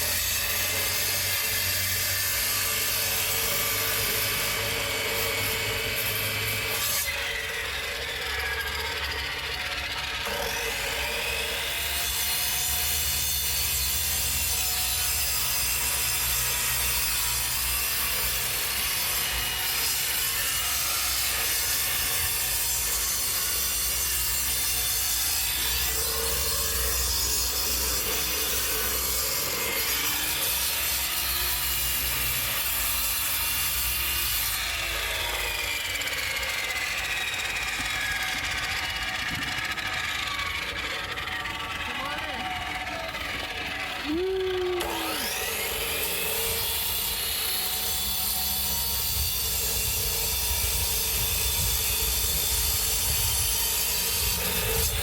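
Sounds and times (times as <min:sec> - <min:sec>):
concrete saw cutting: 0:00.0 - 0:55.0.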